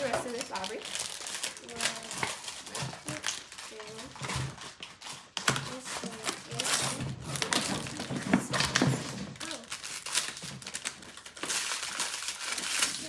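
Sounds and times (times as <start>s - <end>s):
packaging tearing and crinkling: 0.0s - 13.0s.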